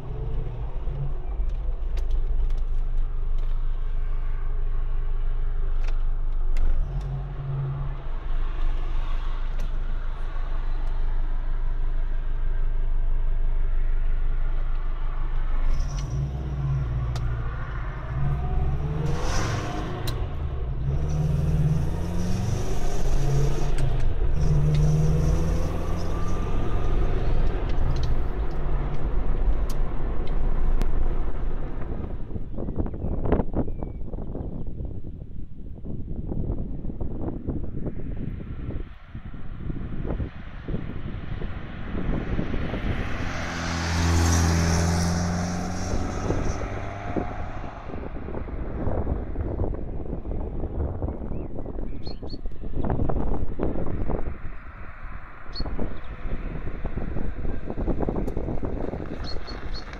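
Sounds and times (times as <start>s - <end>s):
car engine rumbling and revving: 0.0s - 59.9s.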